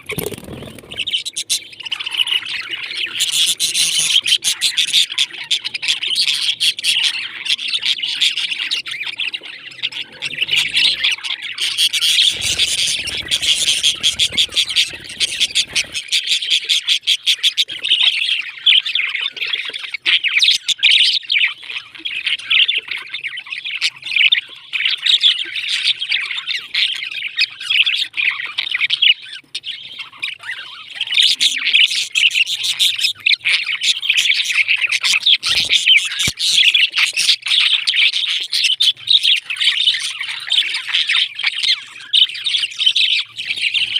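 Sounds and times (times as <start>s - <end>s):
parrots chirping and squawking: 0.0s - 43.9s.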